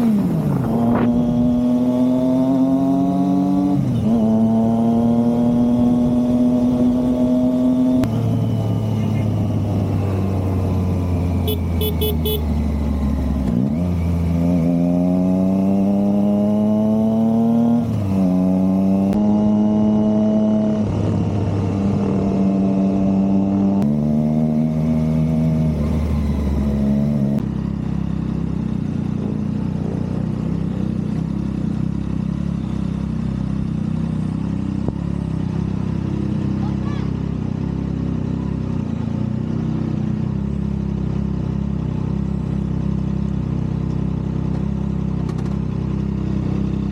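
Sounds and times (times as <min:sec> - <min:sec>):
motorcycle engine shifting gears: 0:00.0 - 0:36.6, 0:37.5 - 0:46.9.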